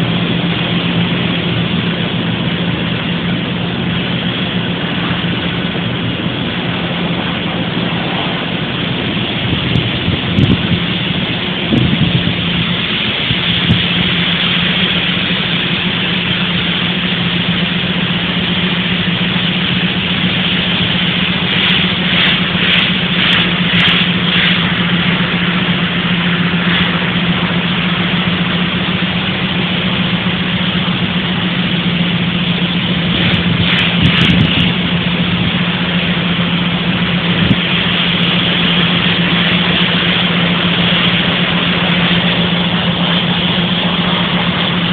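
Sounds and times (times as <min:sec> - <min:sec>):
machinery droning with low hum: 0:00.0 - 0:44.9.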